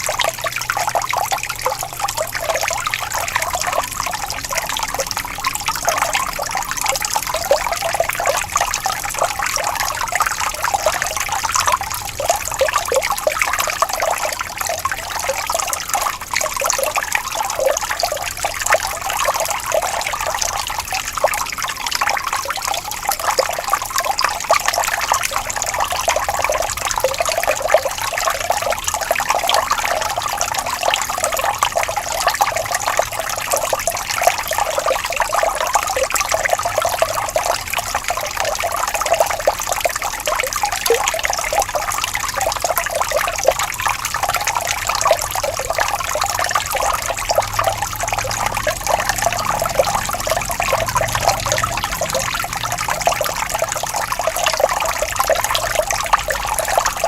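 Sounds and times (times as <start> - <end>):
water babbling in a stream: 0.0 - 57.0.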